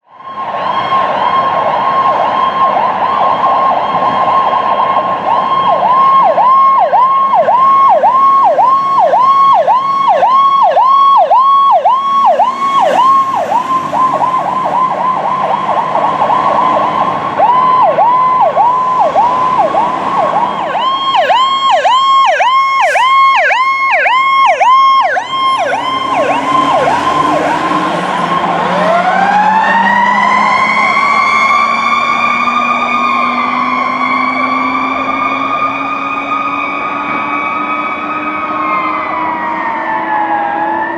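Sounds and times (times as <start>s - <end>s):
electronic siren yelp: 0.1s - 40.9s.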